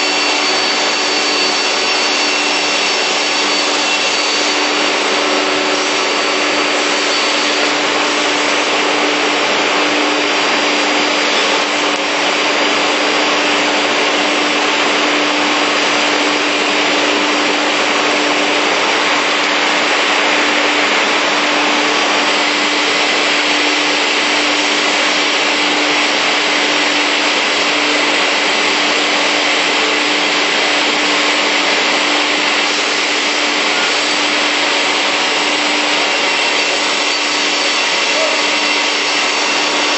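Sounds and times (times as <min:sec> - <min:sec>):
industrial saw running: 0:00.0 - 0:39.9
steady machine hum: 0:00.0 - 0:39.9.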